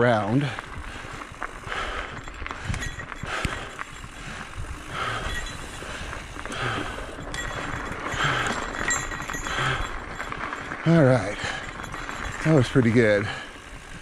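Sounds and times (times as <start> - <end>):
bike clicks and rattles: 0.0 - 14.0
bike tyres rolling on dirt: 0.0 - 14.0.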